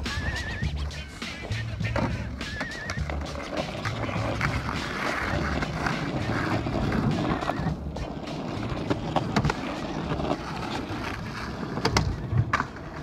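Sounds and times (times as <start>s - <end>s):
skateboard clacks: 0.0s - 13.0s
skateboard wheels rolling: 0.0s - 13.0s.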